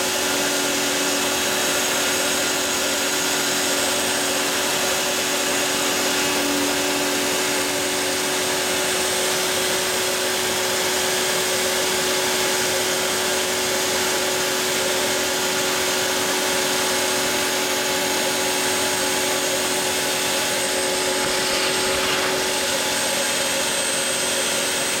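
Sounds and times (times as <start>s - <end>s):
router motor whine cutting: 0.0s - 25.0s.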